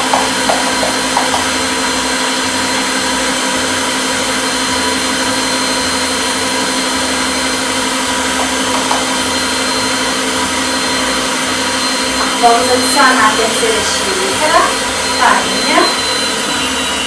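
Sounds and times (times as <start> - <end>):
electric stand mixer running: 0.0 - 17.0.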